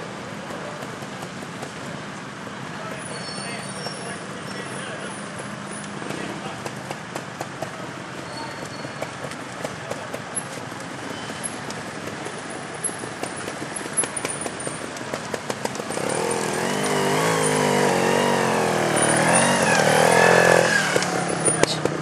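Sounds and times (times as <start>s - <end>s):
motorcycle engine at low revs: 0.0s - 2.8s, 3.7s - 22.0s.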